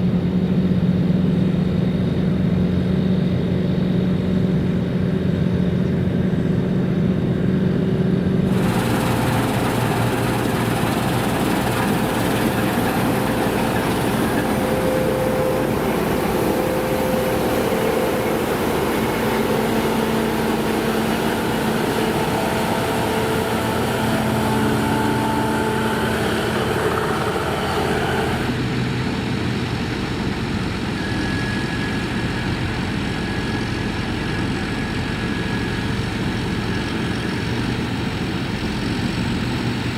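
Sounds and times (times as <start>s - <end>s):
combine harvester diesel drone: 0.0s - 39.9s.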